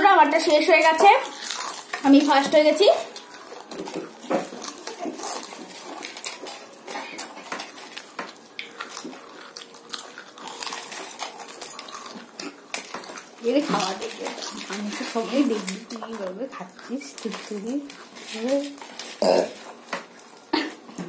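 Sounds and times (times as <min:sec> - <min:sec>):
people crunching potato chips: 0:00.2 - 0:21.0.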